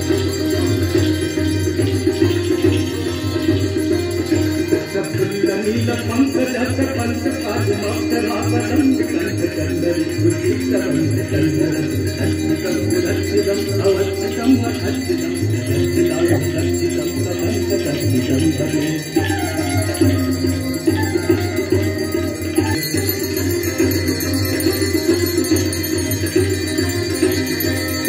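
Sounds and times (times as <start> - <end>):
devotional music with steady beat: 0.0 - 28.0
hand bells ringing: 0.0 - 28.0.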